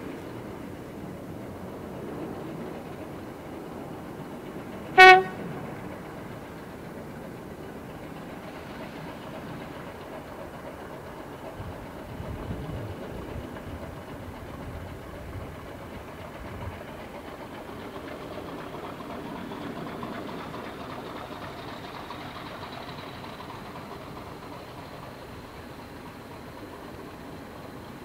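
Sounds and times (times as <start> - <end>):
diesel locomotive idling: 0.0 - 28.0.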